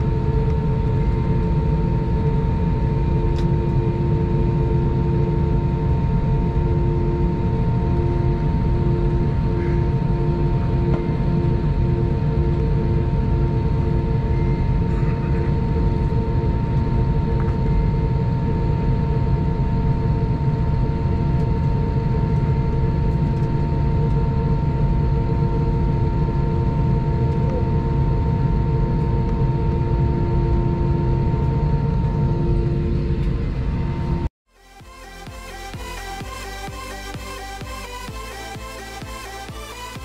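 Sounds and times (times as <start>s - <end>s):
constant hum: 0.0s - 40.0s.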